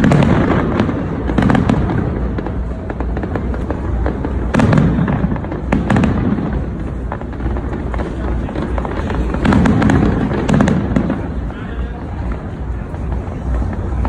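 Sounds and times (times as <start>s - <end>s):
fireworks booms: 0.0s - 14.0s
fireworks crackling: 0.0s - 14.0s.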